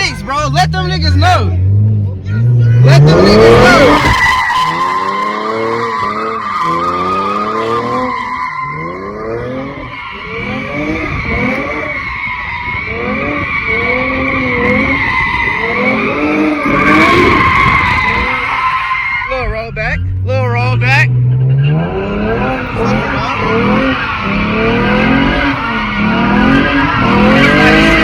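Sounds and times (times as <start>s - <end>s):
car engine revving: 0.0s - 28.0s
tyres squealing: 2.3s - 20.7s, 21.3s - 28.0s.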